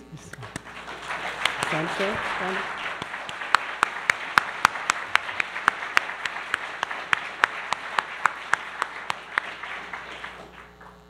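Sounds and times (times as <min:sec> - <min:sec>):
audience applauding: 0:00.0 - 0:11.0
sharp close claps: 0:00.3 - 0:11.0.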